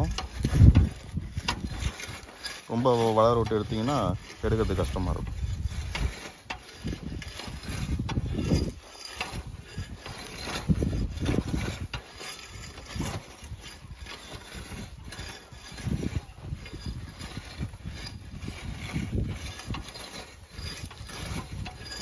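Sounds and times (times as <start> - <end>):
weeder blade scraping soil: 0.0 - 22.0.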